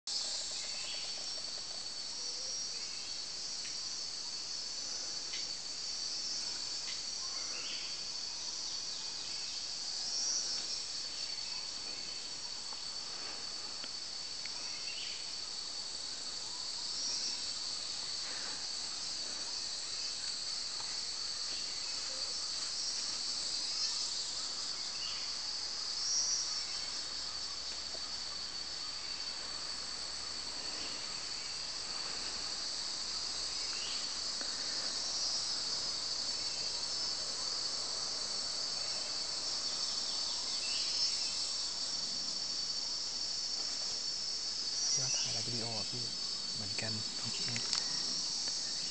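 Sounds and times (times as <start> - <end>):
faint insect chirps: 0.1 - 48.9
high-pitched insect drone: 0.1 - 48.9.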